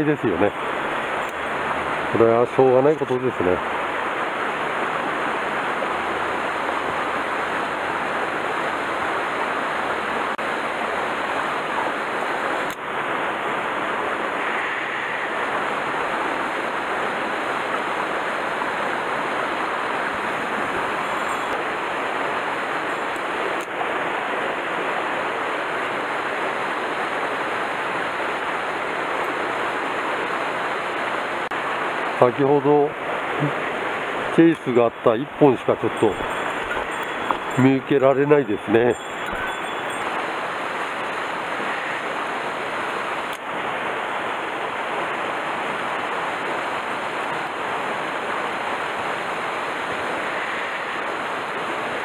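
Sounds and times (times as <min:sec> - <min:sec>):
stream rushing over rocks: 0:00.0 - 0:52.0.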